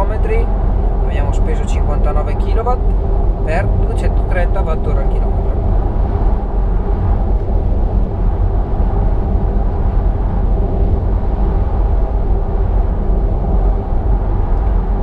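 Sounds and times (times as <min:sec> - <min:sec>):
car tyre and wind noise: 0:00.0 - 0:15.0.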